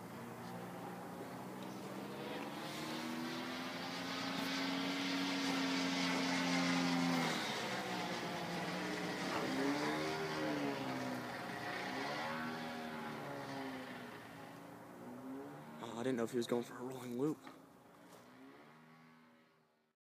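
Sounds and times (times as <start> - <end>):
model plane engine in flight: 0.0 - 19.8.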